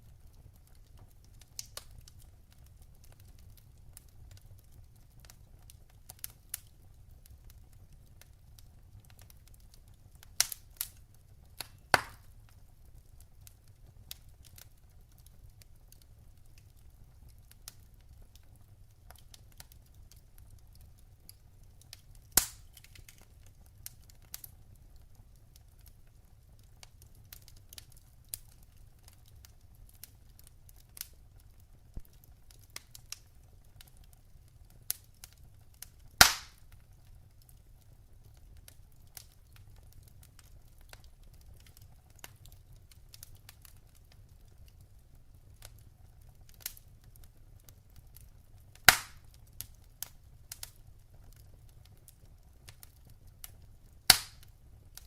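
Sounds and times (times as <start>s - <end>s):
wood fire crackling: 0.0s - 55.0s
loud pops from burning logs: 0.1s - 55.0s.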